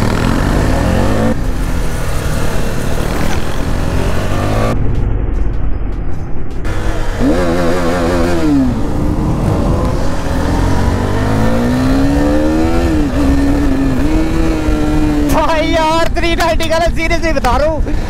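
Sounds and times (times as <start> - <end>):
motorcycle engine accelerating: 0.0 - 15.6
wind rushing past microphone: 0.0 - 18.0.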